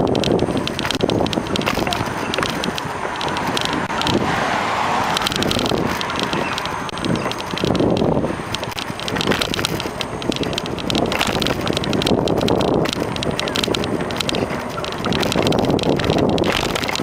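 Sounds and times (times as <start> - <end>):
bicycle rattles and clicks: 0.0 - 17.0
wind rushing over microphone: 0.0 - 17.0.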